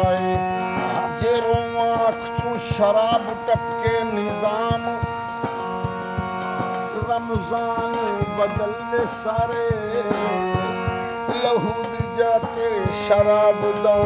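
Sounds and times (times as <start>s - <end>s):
man singing: 0.0s - 6.0s, 6.6s - 14.0s
harmonium playing held notes: 0.0s - 14.0s.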